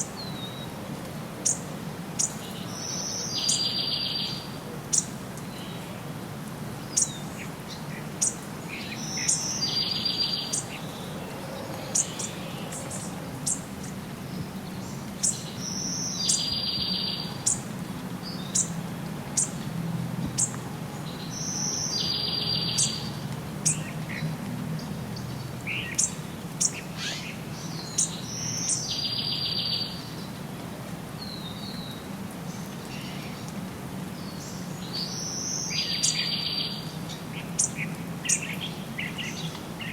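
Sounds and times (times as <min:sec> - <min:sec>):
songbird buzzy trill song: 0:00.0 - 0:06.1, 0:06.8 - 0:30.4, 0:31.2 - 0:39.9.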